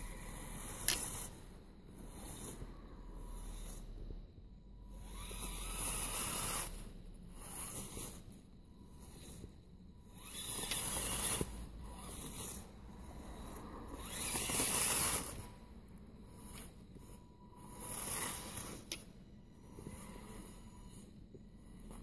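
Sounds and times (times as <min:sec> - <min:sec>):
electric motor whirring: 0:00.0 - 0:22.0.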